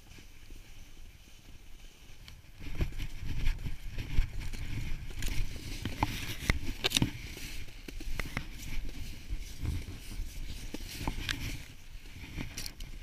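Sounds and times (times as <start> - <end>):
snowboard scraping over snow: 0.0 - 13.0.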